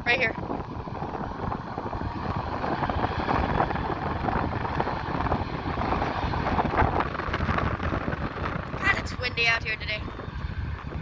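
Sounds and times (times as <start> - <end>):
jet engine roaring at takeoff: 0.0 - 11.0
wind buffeting microphone: 0.0 - 11.0.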